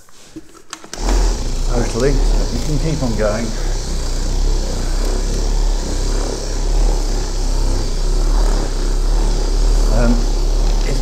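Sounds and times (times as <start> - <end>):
buffing machine humming: 0.8 - 11.0.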